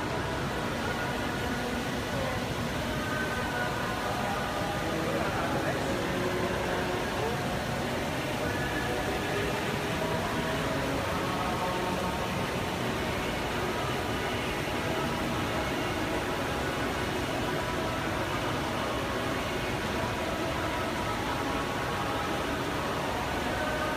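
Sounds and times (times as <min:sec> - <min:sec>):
background hiss with faint hum: 0:00.0 - 0:23.9.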